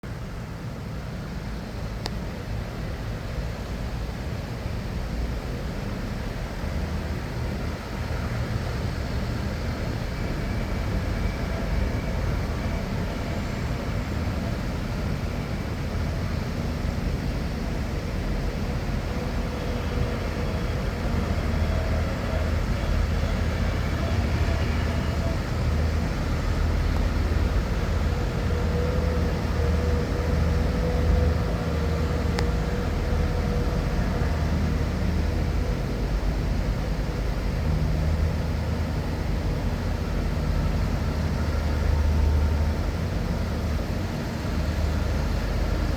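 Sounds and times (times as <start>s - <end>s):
tractor engines running: 0.1s - 45.9s.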